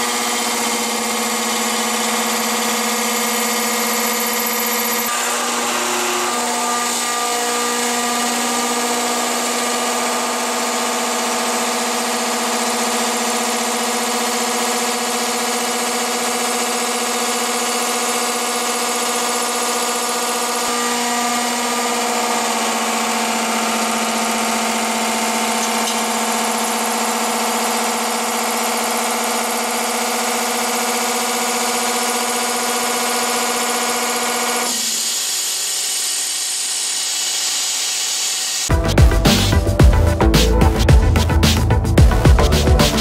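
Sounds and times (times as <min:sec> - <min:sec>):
milling machine whine: 0:00.0 - 0:43.0.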